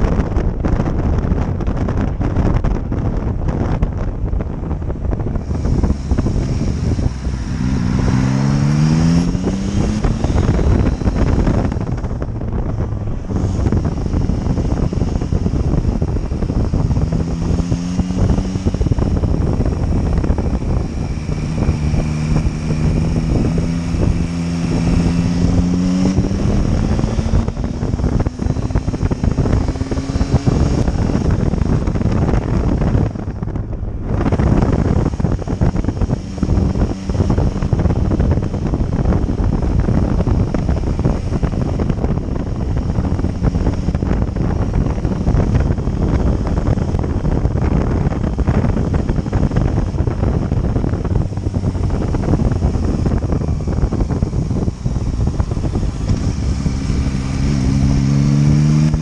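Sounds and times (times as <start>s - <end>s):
motorcycle engine: 0.0s - 59.0s
wind noise on microphone: 0.0s - 59.0s.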